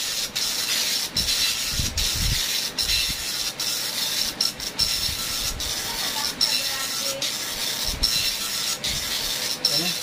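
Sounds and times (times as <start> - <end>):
dot-matrix printer buzzing: 0.0 - 10.0.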